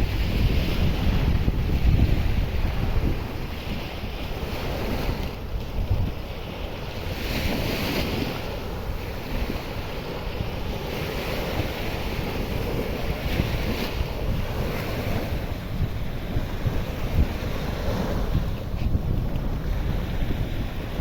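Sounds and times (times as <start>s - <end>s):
sea surf washing onto beach: 0.0s - 21.0s
wind buffeting microphone: 0.0s - 21.0s.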